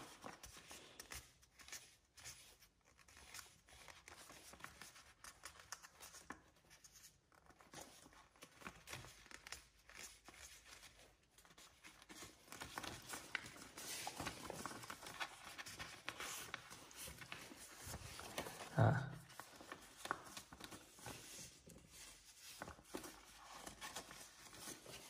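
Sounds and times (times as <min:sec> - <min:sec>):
paper crinkling and rustling: 0:00.0 - 0:25.0.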